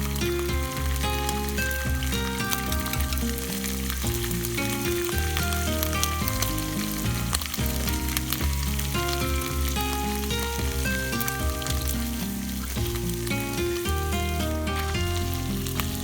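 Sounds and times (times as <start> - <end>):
background music with bass line: 0.0 - 16.0
sizzling with crackling clicks: 0.0 - 16.0.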